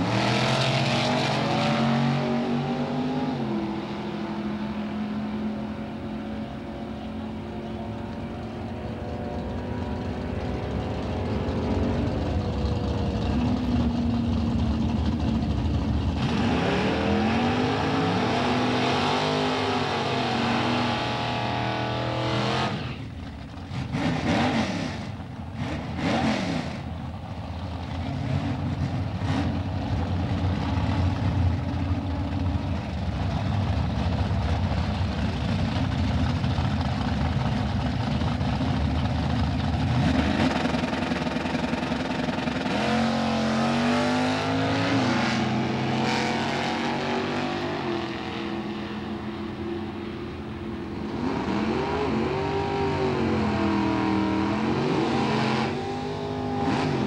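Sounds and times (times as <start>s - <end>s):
drag racing car engines revving: 0.0s - 57.0s.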